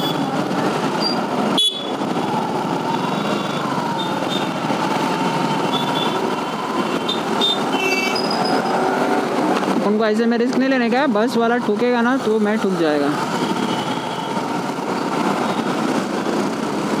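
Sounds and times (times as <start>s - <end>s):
bus running alongside: 0.0s - 17.0s
city traffic drone: 0.0s - 17.0s.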